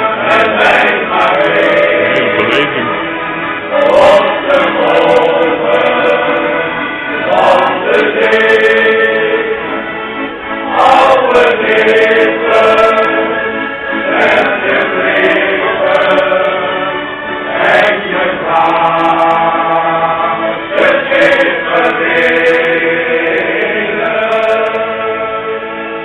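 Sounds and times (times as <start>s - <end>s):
accordion: 0.0s - 26.0s
men's choir singing: 0.0s - 26.0s.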